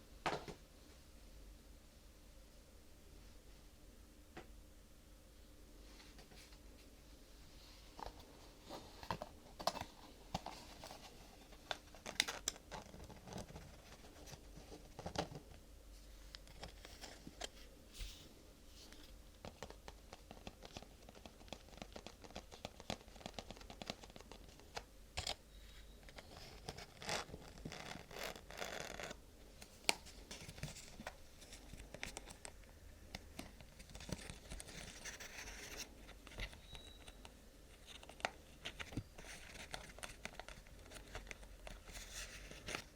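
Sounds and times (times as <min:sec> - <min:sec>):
crinkling and scratching: 0:07.8 - 0:42.9.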